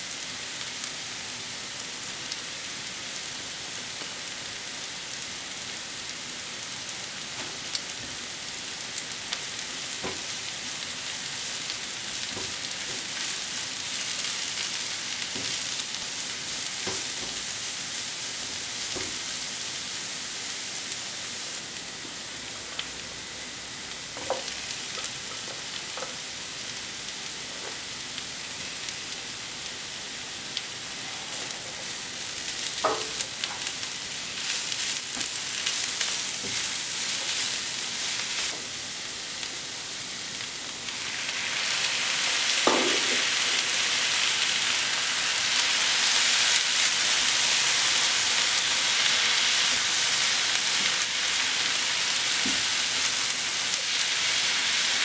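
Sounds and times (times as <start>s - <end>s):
vegetables sizzling in a frying pan: 0.0s - 55.0s.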